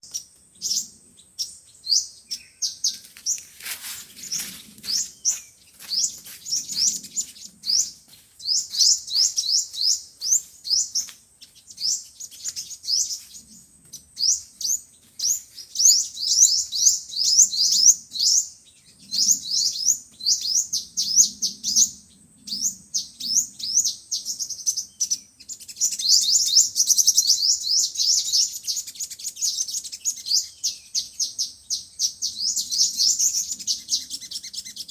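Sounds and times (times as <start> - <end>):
birds chirping trills: 0.0 - 34.9.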